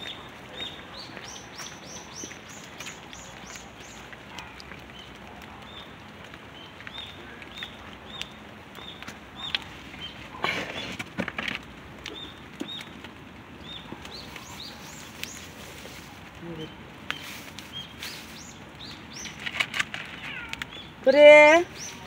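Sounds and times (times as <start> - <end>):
bird chirping: 0.0 - 10.2, 12.1 - 13.0, 13.6 - 22.0
rain hiss: 0.0 - 22.0.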